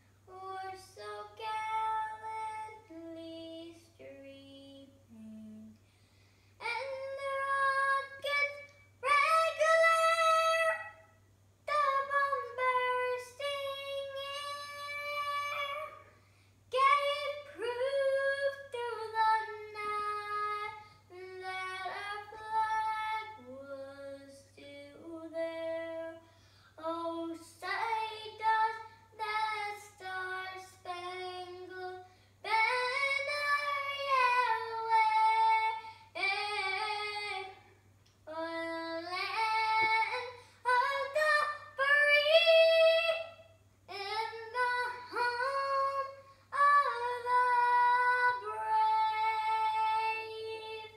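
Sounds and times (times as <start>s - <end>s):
girl singing: 0.0s - 5.9s, 6.5s - 50.9s.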